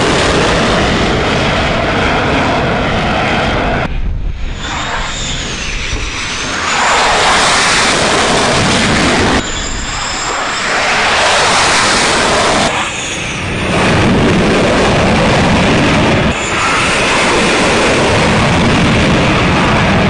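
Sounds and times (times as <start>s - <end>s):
high turbine whine: 0.0s - 20.0s
jet engine roar: 0.0s - 20.0s.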